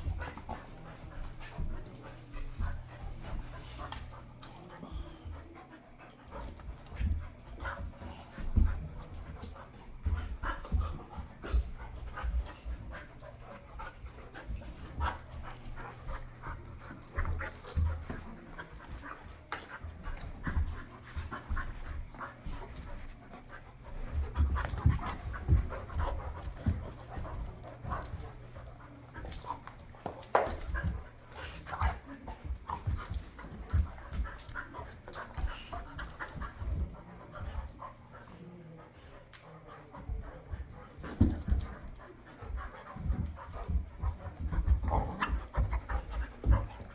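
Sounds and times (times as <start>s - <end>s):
dogs panting: 0.0s - 46.9s
dogs scuffling: 0.0s - 46.9s.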